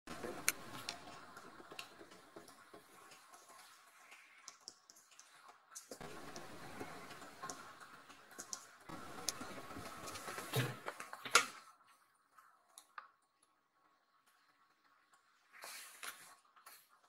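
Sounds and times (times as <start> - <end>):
low room hiss: 0.1 - 17.0.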